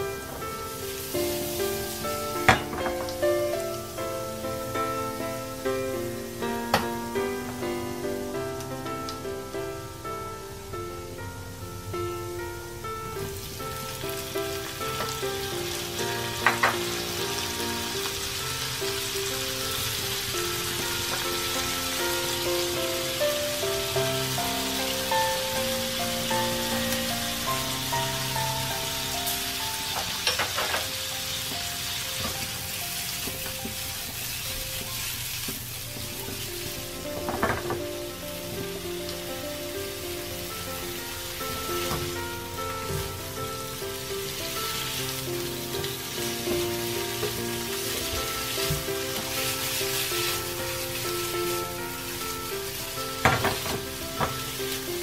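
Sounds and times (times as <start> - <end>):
butter sizzling in a frying pan: 0.0 - 55.0.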